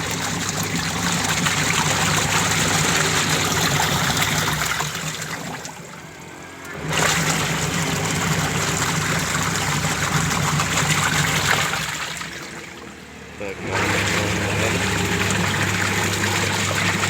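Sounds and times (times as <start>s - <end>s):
water running: 0.0s - 17.0s.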